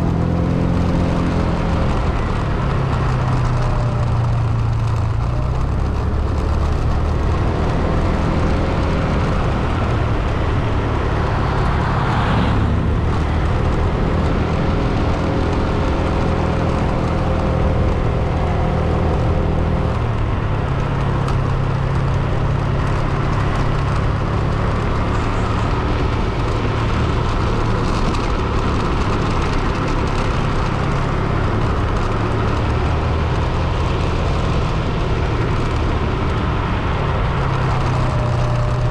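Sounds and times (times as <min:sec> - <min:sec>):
car engine: 0:00.0 - 0:38.9
road noise: 0:00.0 - 0:38.9.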